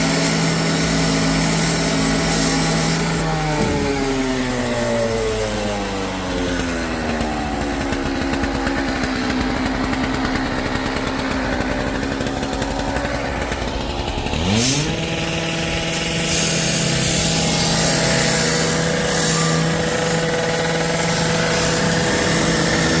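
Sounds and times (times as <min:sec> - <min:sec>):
power saw cutting: 0:00.0 - 0:23.0.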